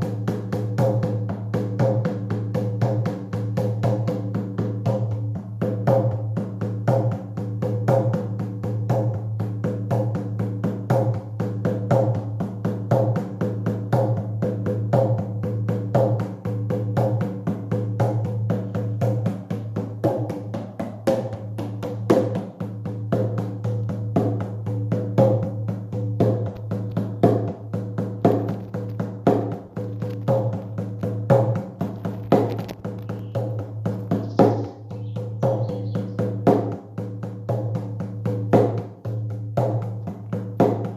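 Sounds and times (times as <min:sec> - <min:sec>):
drum beating fast rhythm: 0:00.0 - 0:40.9.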